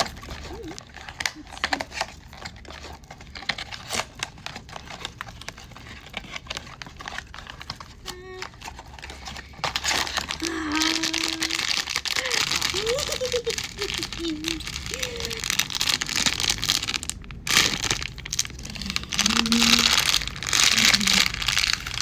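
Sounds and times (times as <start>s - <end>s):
plastic and foil crinkling: 0.0s - 22.0s.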